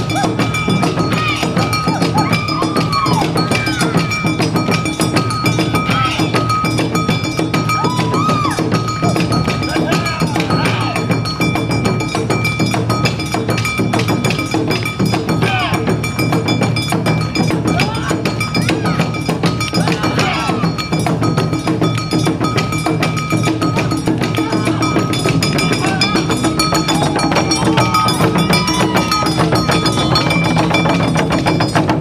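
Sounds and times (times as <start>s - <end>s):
hand gong clanging: 0.0s - 32.0s
taiko drums: 0.0s - 32.0s.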